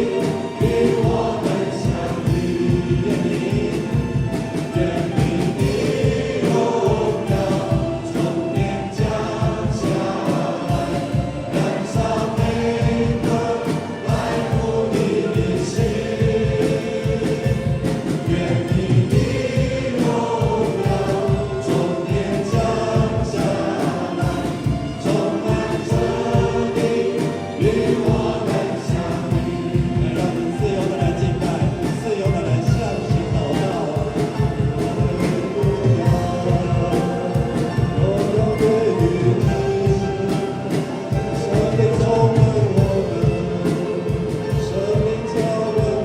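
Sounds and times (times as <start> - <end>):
group of voices singing: 0.0 - 46.0
worship band playing: 0.0 - 46.0.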